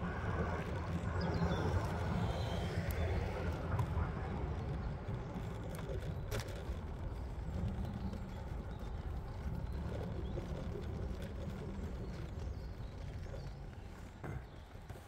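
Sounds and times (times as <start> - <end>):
wind buffeting microphone: 0.0 - 14.9
road rumble: 0.0 - 15.0.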